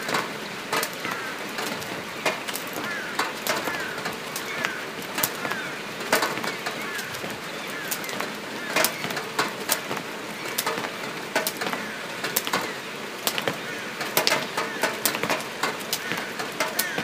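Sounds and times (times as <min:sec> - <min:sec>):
sharp clicks and crackles: 0:00.0 - 0:17.0.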